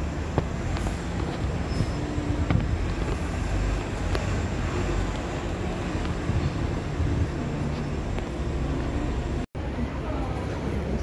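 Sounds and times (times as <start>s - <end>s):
bus diesel engines idling: 0.0s - 11.0s.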